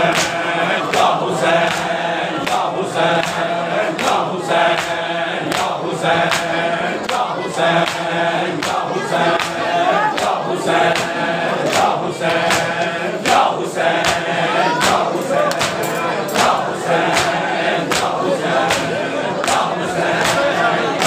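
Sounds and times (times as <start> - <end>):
men chanting a lament: 0.0 - 21.0
chest-beating slaps: 0.1 - 20.5.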